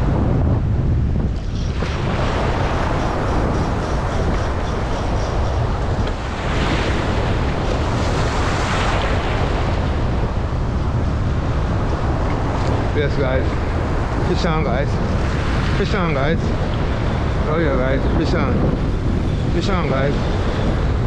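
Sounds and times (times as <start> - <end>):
choppy water: 0.0 - 21.0
wind buffeting microphone: 0.0 - 21.0.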